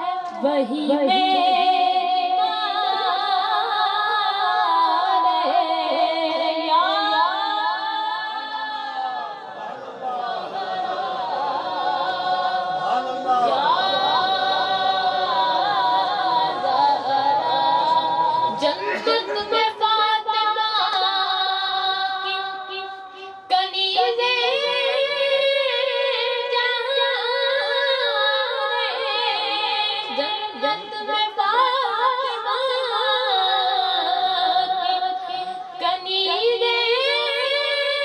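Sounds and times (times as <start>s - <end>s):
boy singing devotional song: 0.0s - 38.0s.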